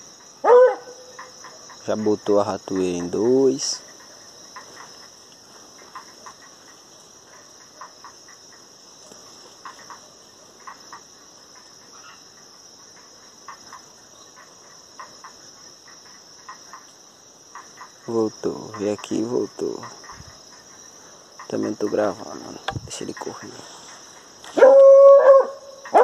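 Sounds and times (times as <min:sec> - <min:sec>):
crickets shrilling: 0:00.0 - 0:26.0.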